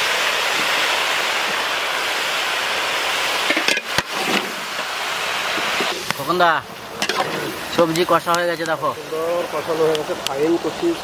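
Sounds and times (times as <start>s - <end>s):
vegetables sizzling in oil: 0.0s - 10.8s.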